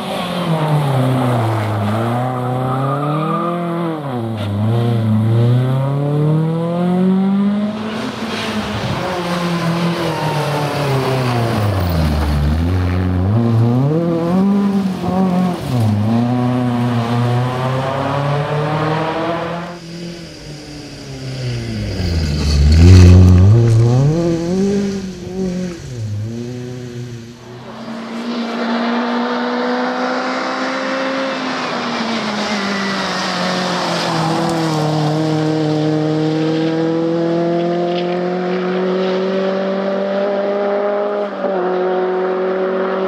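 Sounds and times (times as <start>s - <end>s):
rally car engine at full throttle: 0.0s - 43.0s.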